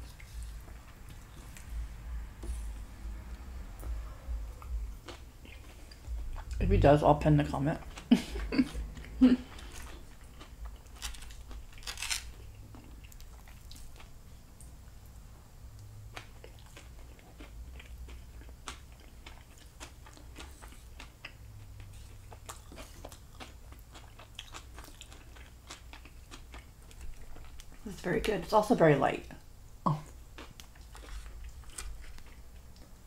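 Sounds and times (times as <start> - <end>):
close chewing of food: 0.0 - 15.1, 15.7 - 27.9, 29.9 - 33.0.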